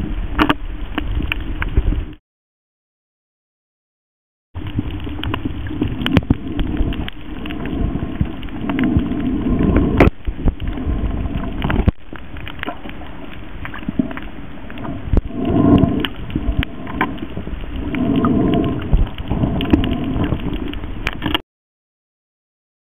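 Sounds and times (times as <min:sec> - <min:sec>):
underwater rushing wash: 0:00.0 - 0:02.2, 0:04.6 - 0:21.4
underwater crackle of clicks: 0:00.3 - 0:02.1, 0:04.6 - 0:21.4.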